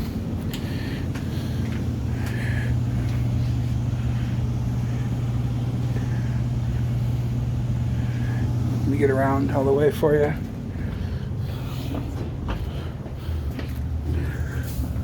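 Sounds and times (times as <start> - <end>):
furnace equipment humming: 0.0 - 15.0.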